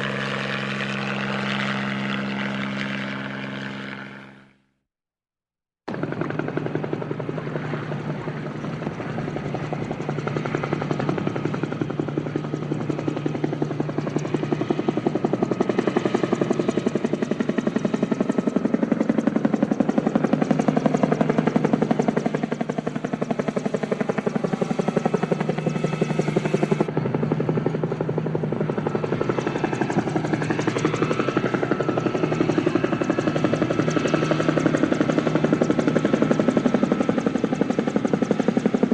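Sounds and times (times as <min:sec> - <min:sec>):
helicopter engine hum: 0:00.0 - 0:04.8, 0:05.7 - 0:38.9
helicopter rotor blades beating: 0:00.0 - 0:04.8, 0:05.9 - 0:38.9.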